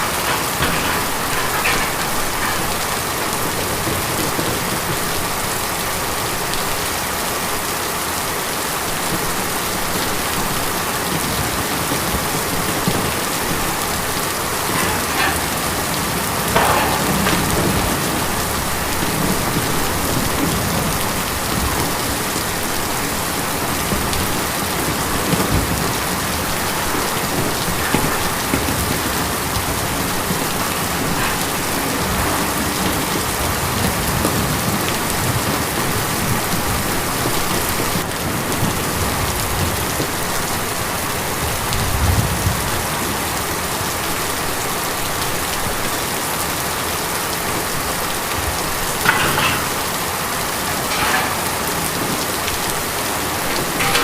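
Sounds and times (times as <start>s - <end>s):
rain drumming on a tin roof: 0.0s - 54.0s.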